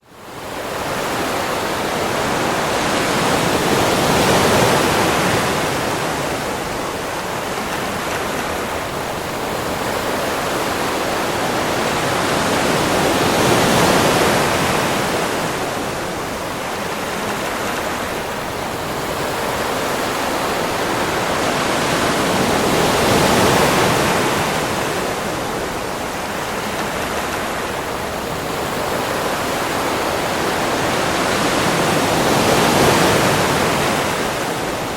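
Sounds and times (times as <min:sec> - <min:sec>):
sea waves washing onto beach: 0:00.1 - 0:34.9.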